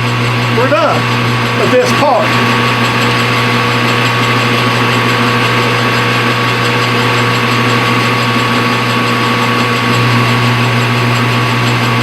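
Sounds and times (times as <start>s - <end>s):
metal lathe humming and whining: 0.0s - 12.0s.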